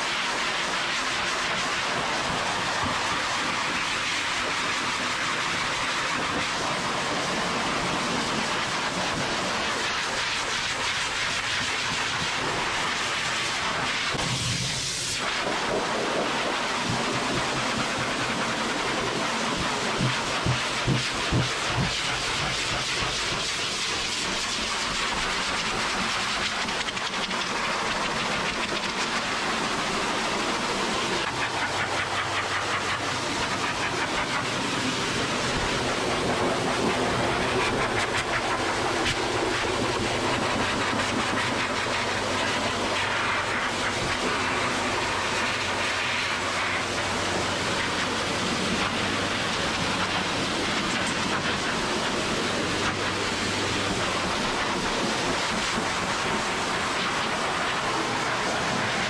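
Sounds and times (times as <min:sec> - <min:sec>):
pet dryer blowing air: 0:00.0 - 0:59.0.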